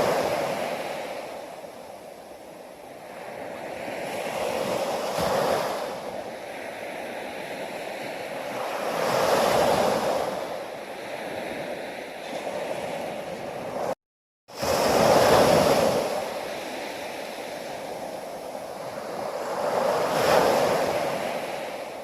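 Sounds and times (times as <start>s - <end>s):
ocean waves surging: 0.0s - 22.0s.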